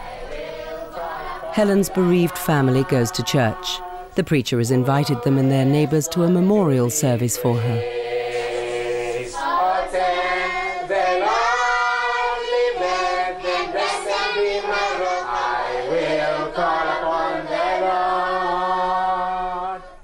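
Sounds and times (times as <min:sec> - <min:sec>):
congregation singing: 0:00.0 - 0:20.0.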